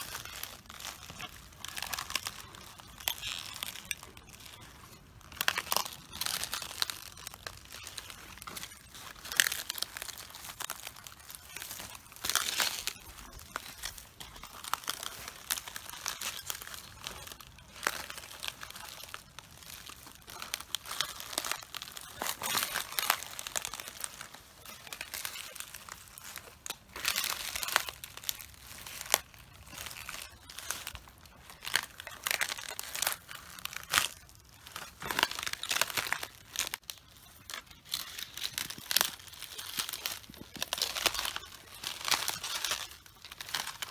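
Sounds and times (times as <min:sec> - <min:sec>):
cabbage crunching under footsteps: 0:00.0 - 0:43.9.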